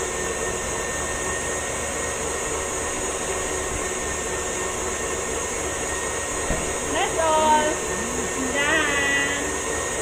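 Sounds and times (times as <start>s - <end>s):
stand mixer motor whirring: 0.0s - 10.0s.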